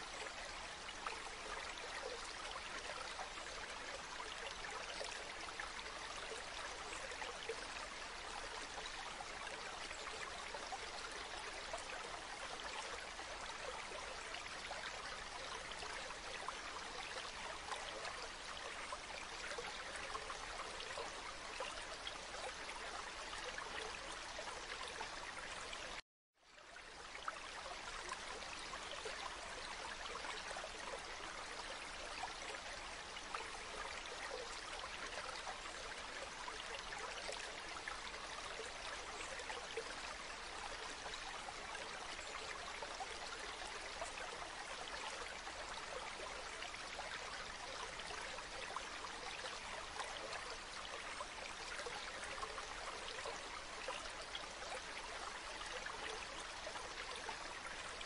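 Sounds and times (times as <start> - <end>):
stream trickling over pebbles: 0.0 - 58.0.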